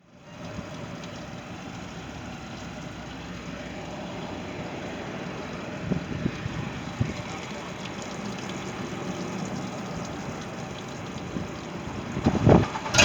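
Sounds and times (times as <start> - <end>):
boat engine idling: 0.1 - 13.0.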